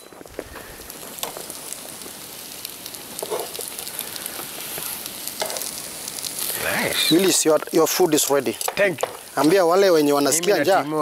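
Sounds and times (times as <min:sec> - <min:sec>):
faint crackles: 0:00.0 - 0:11.0
food sizzling in hot oil: 0:00.0 - 0:11.0.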